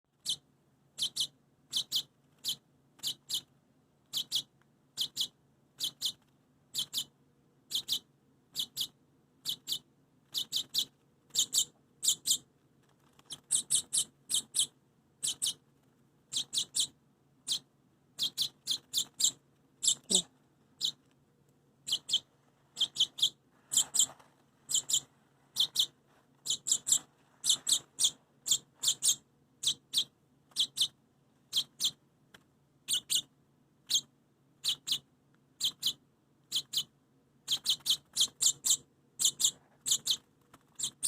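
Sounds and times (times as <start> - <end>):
baby bird chirping: 0.1 - 15.6, 16.3 - 21.2, 21.8 - 32.0, 32.8 - 41.0.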